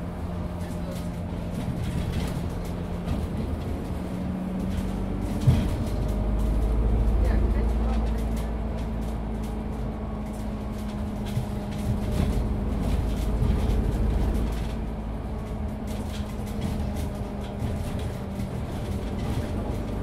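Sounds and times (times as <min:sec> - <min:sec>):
bus engine drone: 0:00.0 - 0:20.0
light rattles and ticks: 0:00.2 - 0:20.0.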